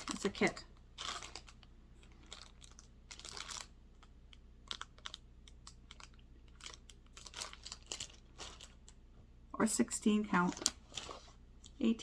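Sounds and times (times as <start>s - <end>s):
rustling fabric and packaging: 0.0s - 9.1s, 10.0s - 12.0s.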